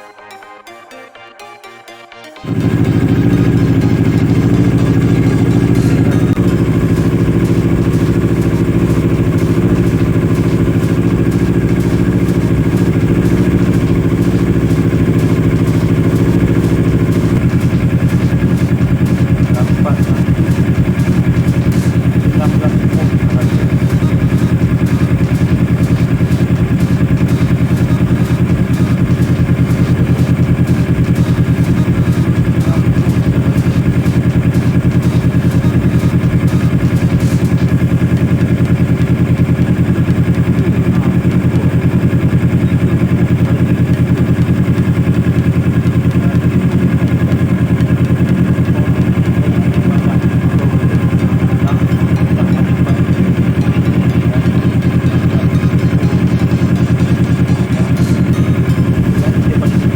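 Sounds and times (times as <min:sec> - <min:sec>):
motorcycle engine idling: 0:02.4 - 0:59.9.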